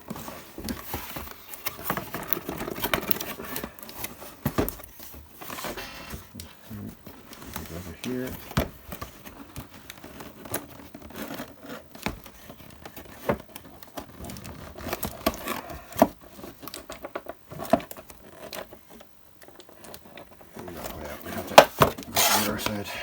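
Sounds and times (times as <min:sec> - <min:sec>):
packaging crinkling and scraping: 0:00.0 - 0:23.0.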